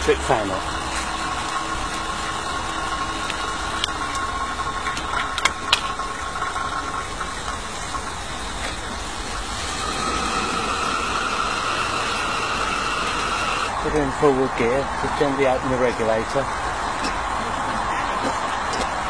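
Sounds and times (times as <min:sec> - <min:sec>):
electric fan whirring: 0:00.0 - 0:17.5
steam hiss: 0:00.0 - 0:17.6.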